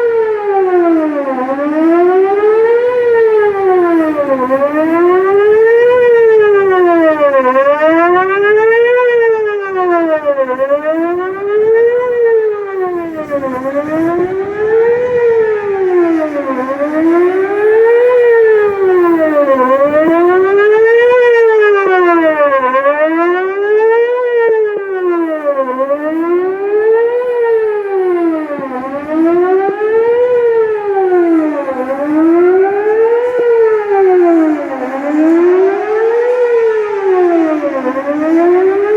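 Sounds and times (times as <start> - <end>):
wavering warning siren: 0.0 - 38.9.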